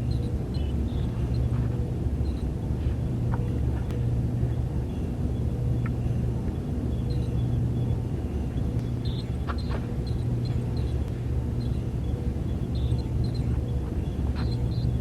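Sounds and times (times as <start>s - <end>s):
low rumbling hum: 0.0s - 15.0s.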